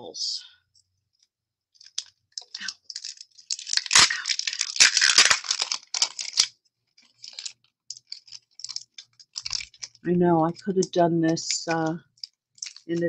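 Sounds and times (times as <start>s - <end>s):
plastic packaging crinkling: 1.7s - 13.0s.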